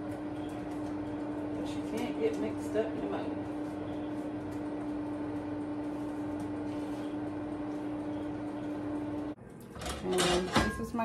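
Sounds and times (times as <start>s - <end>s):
kitchen appliance humming: 0.0s - 10.8s.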